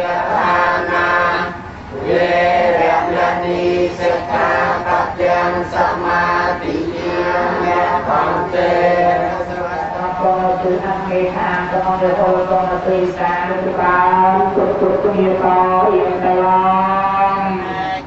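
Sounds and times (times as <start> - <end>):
group chanting prayer: 0.0 - 18.0.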